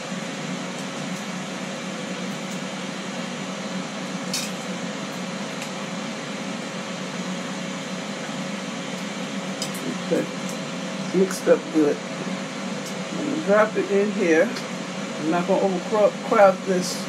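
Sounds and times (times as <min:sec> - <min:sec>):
fan whirring and humming: 0:00.0 - 0:17.0.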